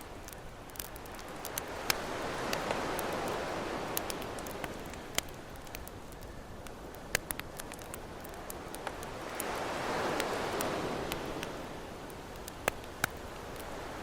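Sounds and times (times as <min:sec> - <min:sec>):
ocean waves washing: 0:00.0 - 0:06.2, 0:07.2 - 0:14.0
campfire crackling and popping: 0:00.0 - 0:14.0.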